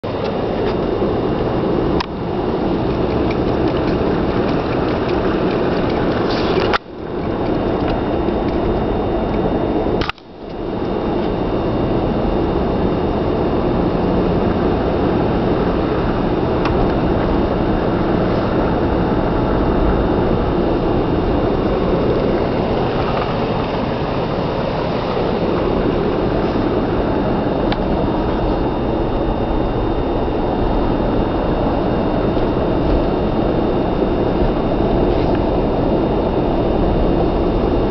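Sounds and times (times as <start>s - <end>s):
car engine and tyre noise: 0.0s - 37.9s.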